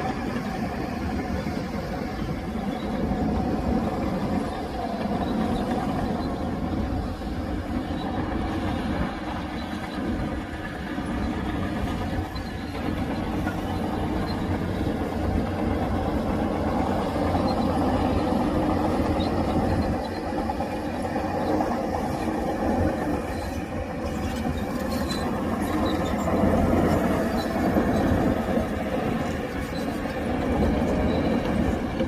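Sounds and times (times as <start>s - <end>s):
diesel earthmoving machinery rumbling: 0.0s - 32.0s.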